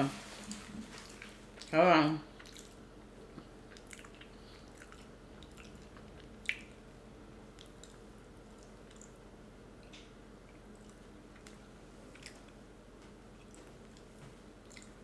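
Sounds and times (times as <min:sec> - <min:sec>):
chewing and wet mouth sounds: 0:00.4 - 0:15.0.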